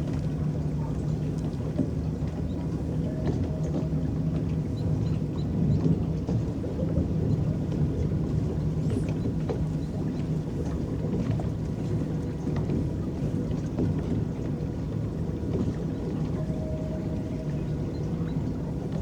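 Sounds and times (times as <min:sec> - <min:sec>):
boat motor rumbling: 0:00.0 - 0:19.0
paddles churning water: 0:00.0 - 0:19.0.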